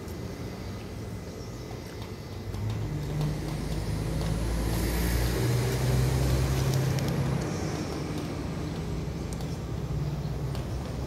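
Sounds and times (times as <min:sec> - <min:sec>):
vehicle engine humming: 0:02.0 - 0:11.0.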